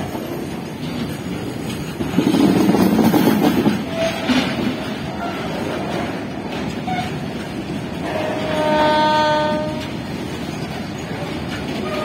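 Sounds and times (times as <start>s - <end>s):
freight wagons rolling past: 0.0s - 12.0s.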